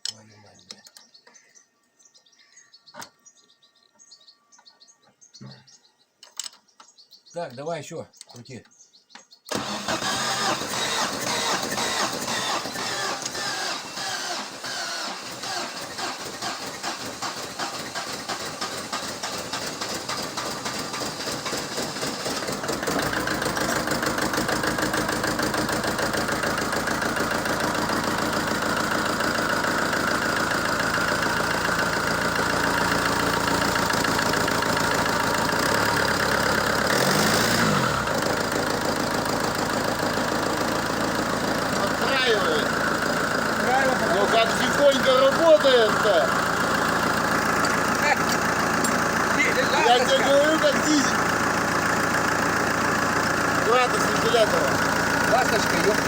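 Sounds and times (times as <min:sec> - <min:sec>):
diesel engine cranking and idling: 0:09.4 - 0:56.0.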